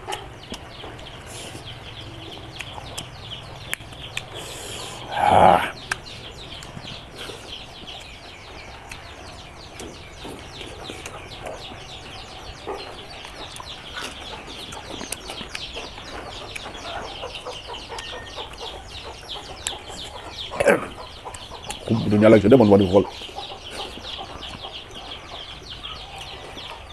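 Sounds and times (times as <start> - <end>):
chickens clucking and cheeping: 0.0 - 26.9.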